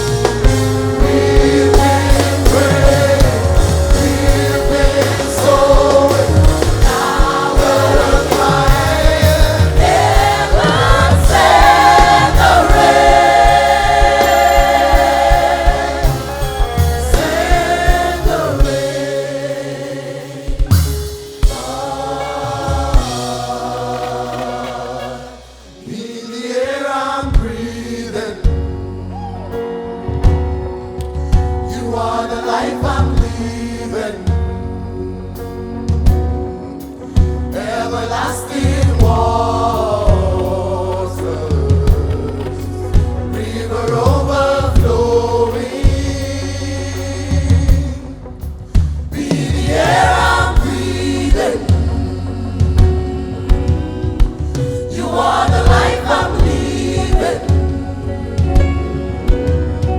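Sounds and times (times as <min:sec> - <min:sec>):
gospel choir singing: 0:00.0 - 0:59.9
live band bass and drums: 0:00.0 - 0:59.9.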